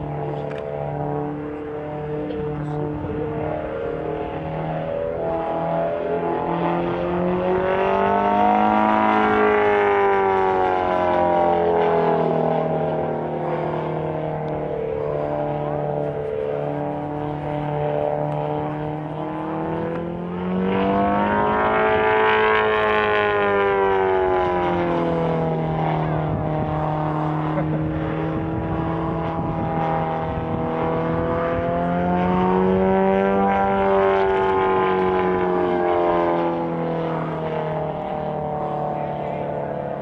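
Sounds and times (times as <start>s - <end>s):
biplane engine and propeller drone: 0.0s - 40.0s.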